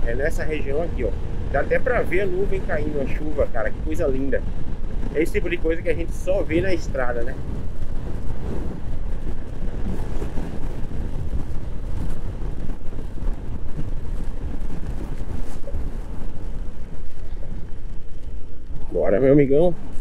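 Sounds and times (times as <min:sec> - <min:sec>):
wind rush on microphone: 0:00.0 - 0:20.0.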